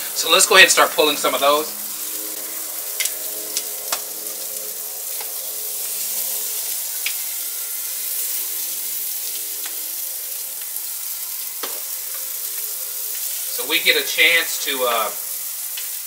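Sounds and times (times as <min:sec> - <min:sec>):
meat sizzling on grill: 0:00.0 - 0:16.0.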